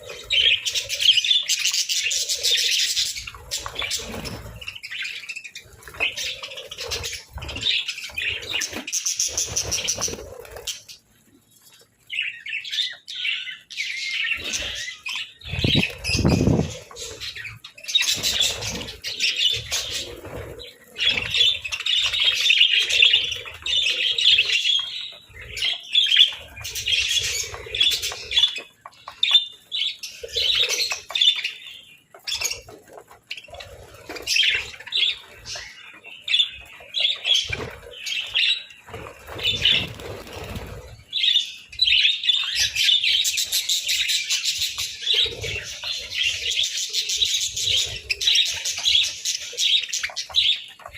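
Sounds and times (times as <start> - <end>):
budgerigars chirping: 0.0 - 11.0, 12.1 - 20.2, 21.0 - 32.7, 33.4 - 50.9.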